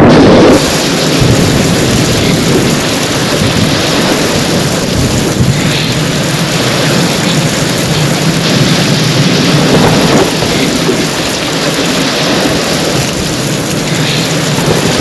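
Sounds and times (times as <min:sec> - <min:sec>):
heavy rain: 0:00.0 - 0:15.0
low thunder rumble: 0:00.0 - 0:15.0.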